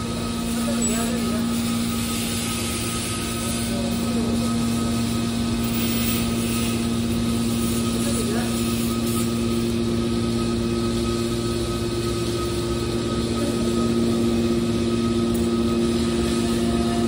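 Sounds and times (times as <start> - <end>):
hydraulic machine hum: 0.0 - 17.0.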